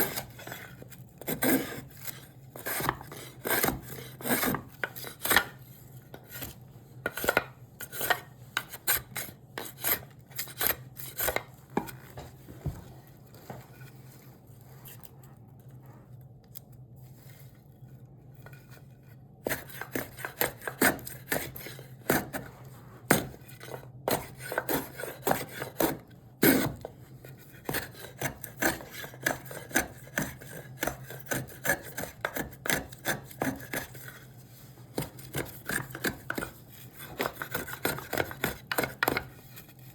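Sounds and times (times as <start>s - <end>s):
hand tool shaping wood: 0.0s - 12.8s, 19.4s - 39.9s.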